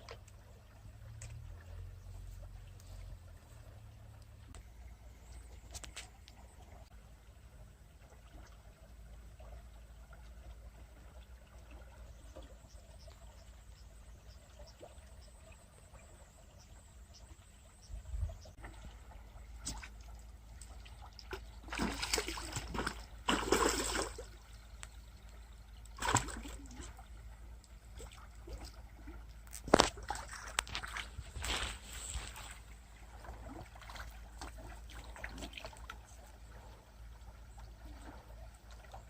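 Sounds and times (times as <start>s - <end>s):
low steady hum: 0.0s - 39.0s
water splashing and sloshing: 0.0s - 39.0s.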